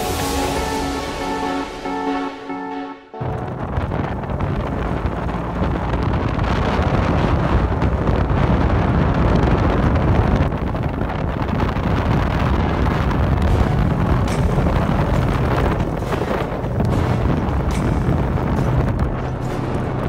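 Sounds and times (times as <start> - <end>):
vehicle low rumble: 3.2 - 20.0
wind buffeting microphone: 3.2 - 20.0.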